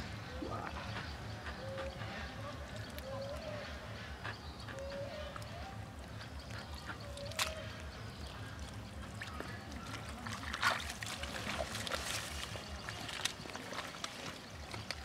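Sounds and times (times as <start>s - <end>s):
mud and water squelching: 0.0s - 15.0s.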